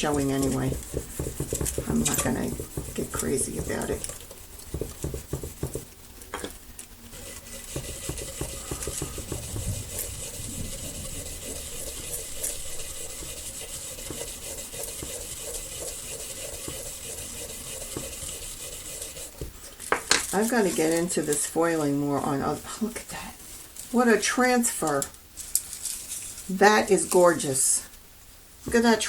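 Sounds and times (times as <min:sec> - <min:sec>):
scratchy rubbing of foil: 0:00.0 - 0:06.2, 0:07.1 - 0:19.4, 0:20.2 - 0:27.2.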